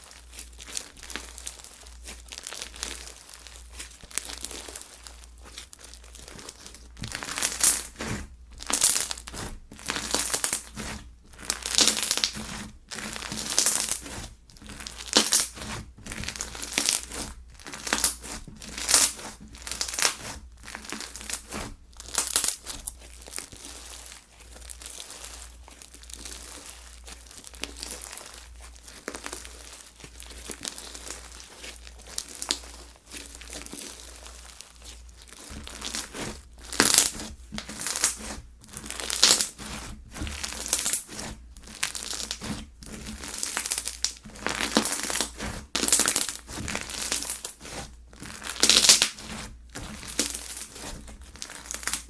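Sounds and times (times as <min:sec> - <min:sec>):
slime crackling when squeezed: 0:00.1 - 0:52.0.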